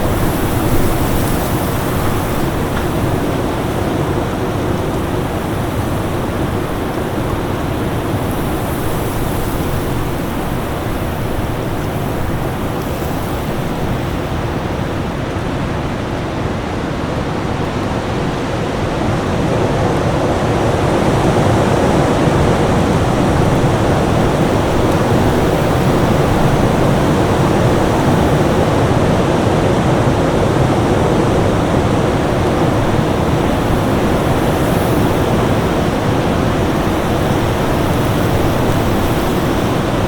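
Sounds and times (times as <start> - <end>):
storm wind roaring: 0.0 - 40.0.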